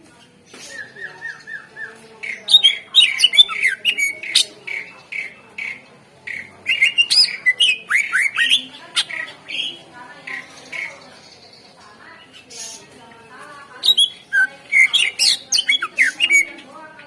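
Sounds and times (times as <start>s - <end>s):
bird singing: 0.6s - 17.0s.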